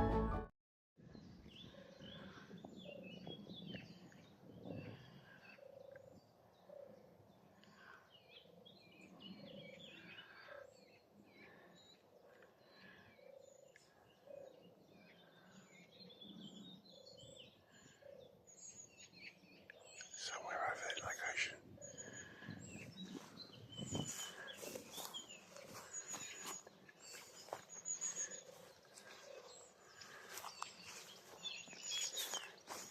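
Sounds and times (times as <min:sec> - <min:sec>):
birds chirping and trilling: 0:01.1 - 0:32.9.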